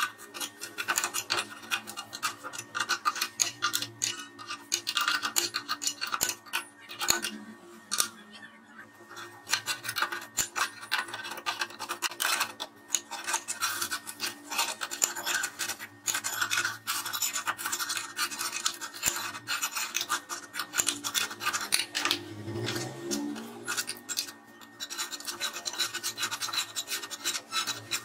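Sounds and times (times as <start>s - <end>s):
wrench scraping and clicking on nut: 0.0s - 7.3s, 9.5s - 28.0s.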